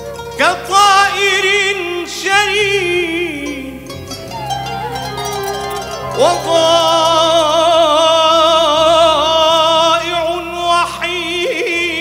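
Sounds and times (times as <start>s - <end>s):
instrumental accompaniment: 0.0s - 12.0s
man singing long vibrato note: 0.3s - 12.0s.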